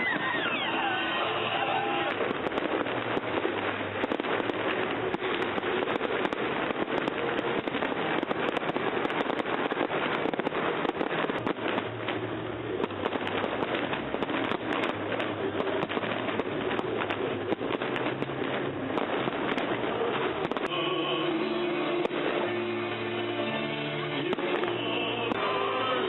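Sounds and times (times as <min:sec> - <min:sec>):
crowd voices: 0:00.0 - 0:09.1, 0:12.4 - 0:26.0
fireworks crackling: 0:00.0 - 0:26.0.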